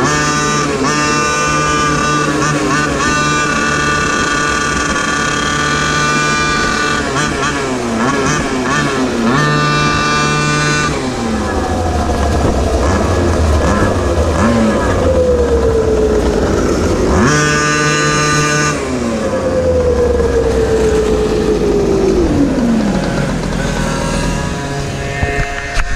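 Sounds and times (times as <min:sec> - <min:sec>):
two-stroke quad engine revving: 0:00.0 - 0:25.9.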